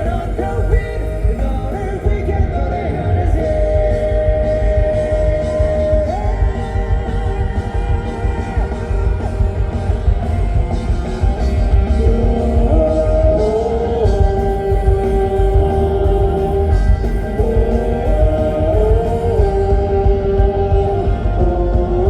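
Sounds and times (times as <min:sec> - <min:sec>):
bass guitar: 0:00.0 - 0:22.0
drums: 0:00.0 - 0:22.0
electric guitar long notes: 0:00.0 - 0:22.0.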